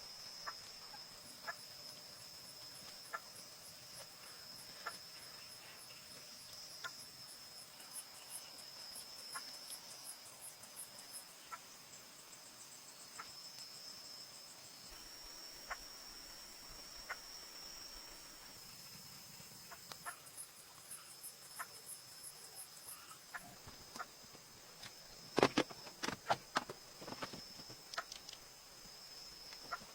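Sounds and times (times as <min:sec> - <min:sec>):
insects trilling: 0:00.0 - 0:29.9
pulsed insect chirping: 0:00.0 - 0:29.9.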